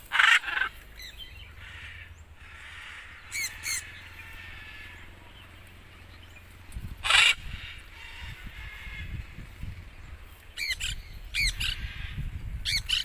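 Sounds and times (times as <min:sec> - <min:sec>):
harsh bird calls: 0:00.0 - 0:13.0.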